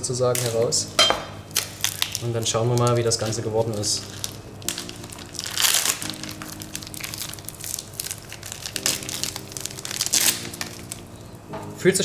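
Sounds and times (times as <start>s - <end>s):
cling film crinkling: 0.3s - 0.8s, 1.5s - 11.3s.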